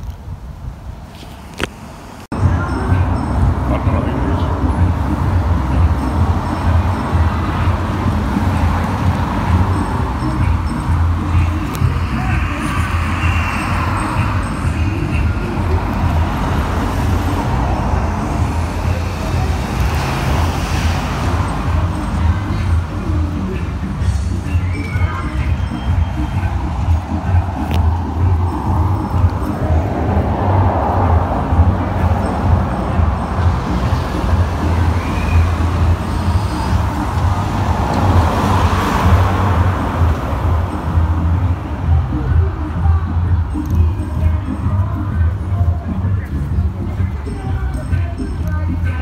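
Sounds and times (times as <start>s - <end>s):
low engine rumble: 0.0s - 49.0s.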